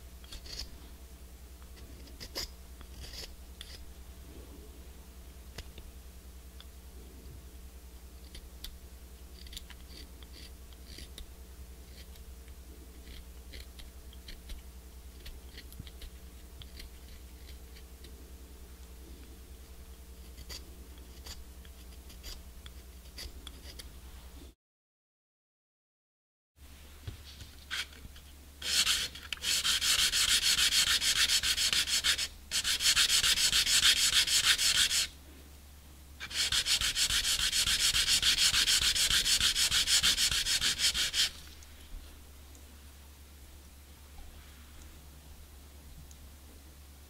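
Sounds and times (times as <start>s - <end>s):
steady low hum: 0.0s - 24.6s, 26.6s - 47.0s.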